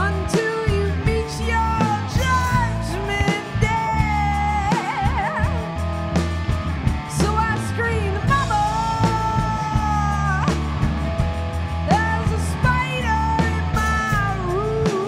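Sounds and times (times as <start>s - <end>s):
woman singing: 0.0s - 5.6s, 7.1s - 10.8s, 11.9s - 15.0s
drum kit: 0.0s - 15.0s
electric bass: 0.0s - 15.0s
electric guitar: 0.0s - 15.0s.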